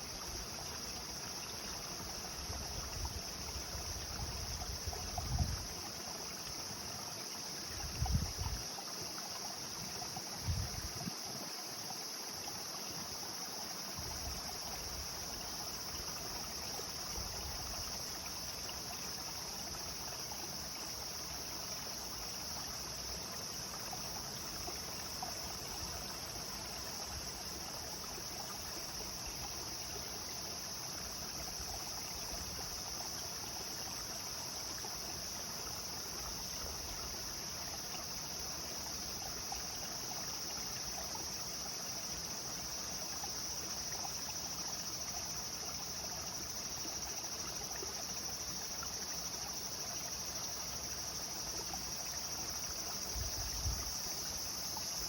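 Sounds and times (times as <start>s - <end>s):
high insect drone: 0.0s - 55.0s
river water flowing: 0.0s - 55.0s.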